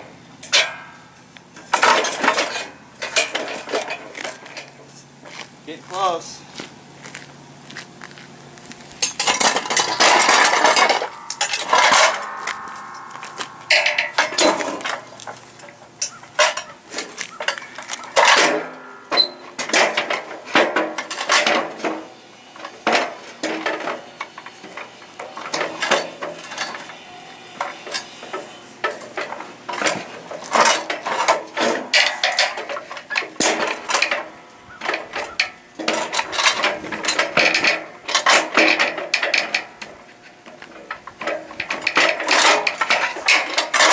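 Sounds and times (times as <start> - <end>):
metal frame parts clanking: 0.4 - 6.4, 8.9 - 43.9.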